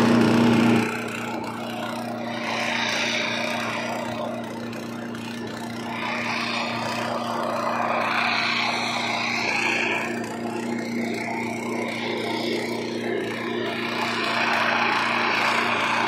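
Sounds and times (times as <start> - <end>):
rushing noise: 0.0 - 16.0
small petrol engine running: 0.0 - 16.0.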